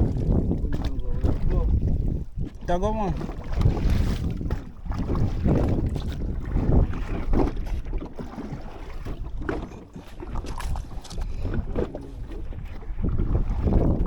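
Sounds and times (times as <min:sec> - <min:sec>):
water sloshing around boat: 0:00.0 - 0:14.0
wind buffeting microphone: 0:00.0 - 0:14.0.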